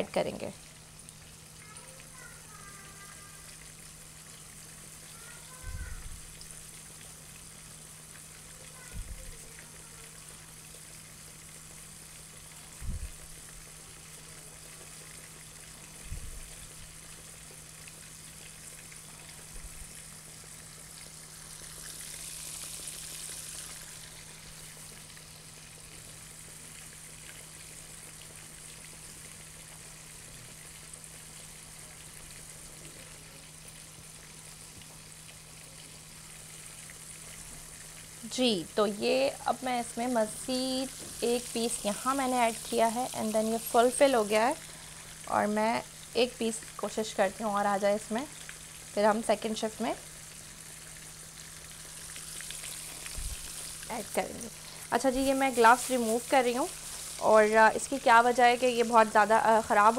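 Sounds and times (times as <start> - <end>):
fish deep-frying in hot oil: 0.0 - 59.9.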